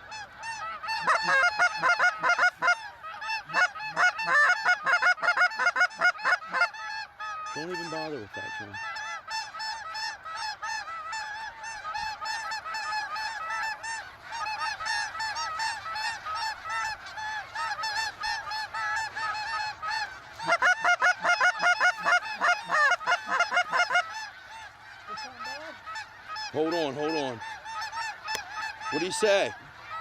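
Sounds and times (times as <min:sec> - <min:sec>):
flock of geese honking: 0:00.0 - 0:30.0.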